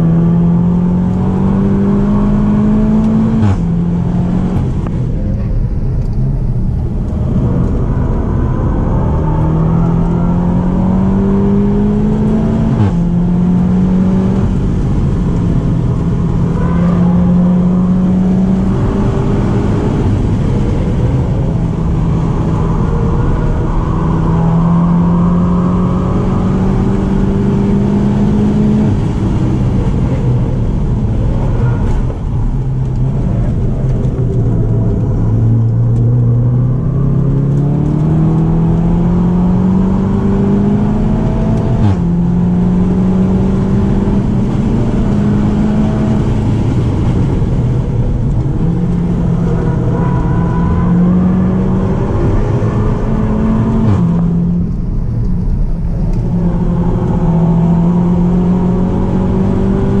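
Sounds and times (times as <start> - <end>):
car engine accelerating: 0.0 - 60.0
tyre and road noise: 0.0 - 60.0.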